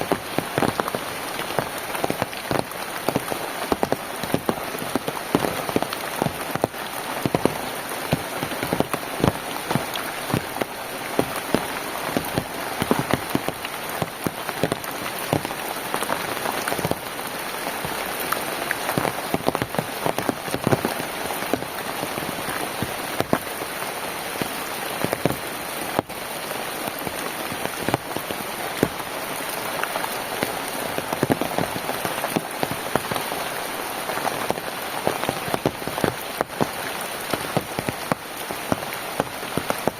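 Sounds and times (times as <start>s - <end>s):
rain falling: 0.0s - 39.9s
raindrops striking close by: 0.0s - 39.9s.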